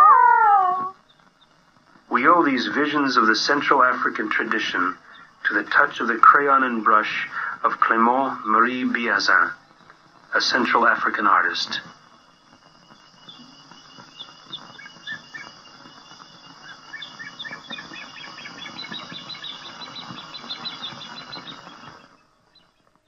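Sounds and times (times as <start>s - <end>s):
birds chirping: 0.0s - 23.0s
insects hissing: 0.2s - 23.0s.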